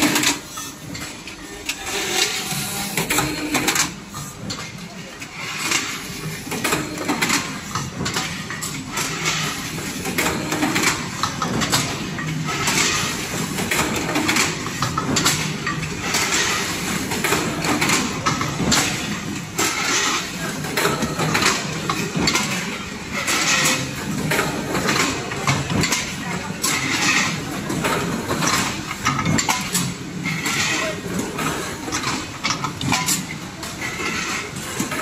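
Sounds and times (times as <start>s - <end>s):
metallic clanks and clicks: 0.0s - 35.0s.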